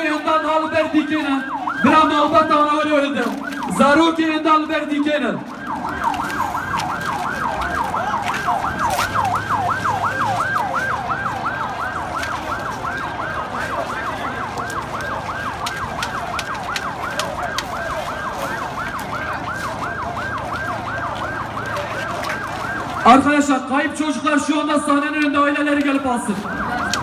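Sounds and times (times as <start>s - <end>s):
emergency siren yelping: 0.0s - 27.0s.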